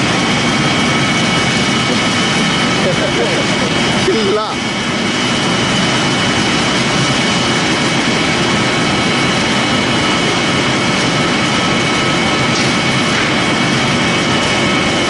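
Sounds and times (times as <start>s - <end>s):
pellet mill machine running: 0.0s - 15.0s.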